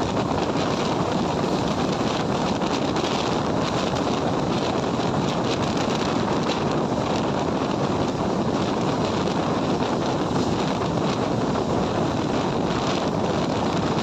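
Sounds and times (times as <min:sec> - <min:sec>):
passenger train running: 0:00.0 - 0:14.0
wind buffeting microphone: 0:00.0 - 0:14.0.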